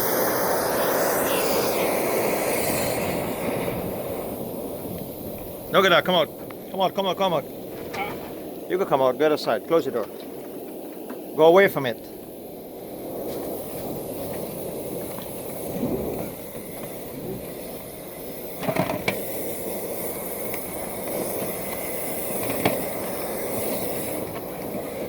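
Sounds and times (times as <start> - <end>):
rushing hiss of air through duct: 0.0 - 25.0.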